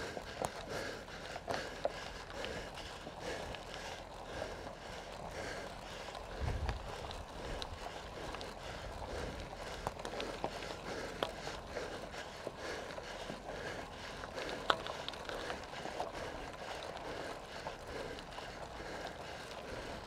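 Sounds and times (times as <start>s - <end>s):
cyclist breathing hard: 0.0s - 20.0s.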